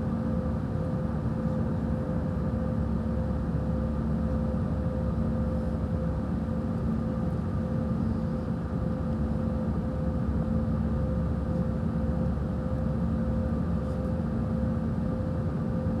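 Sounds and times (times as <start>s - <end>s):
airliner cabin engine noise: 0.0s - 16.0s.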